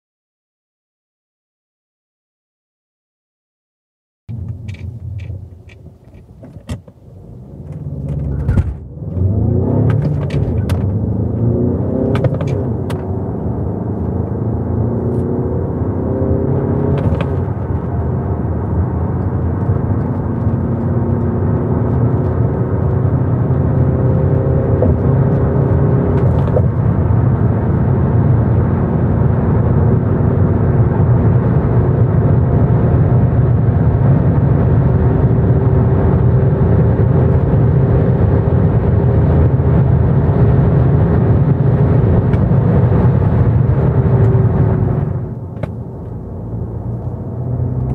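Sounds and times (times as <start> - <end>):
steady road rumble: 4.3 - 47.9
car engine accelerating: 7.0 - 47.9.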